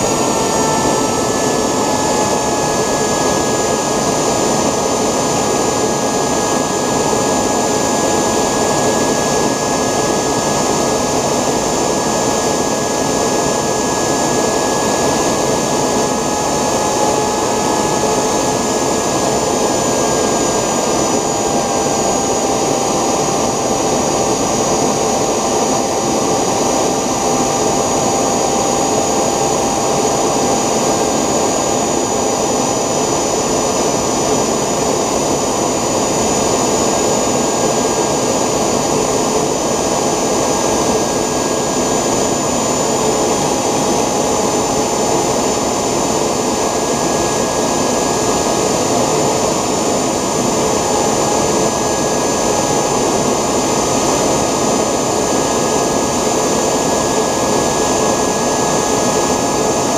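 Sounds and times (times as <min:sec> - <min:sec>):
high whine: 0:00.0 - 0:59.9
model jet engine running: 0:00.0 - 0:59.9.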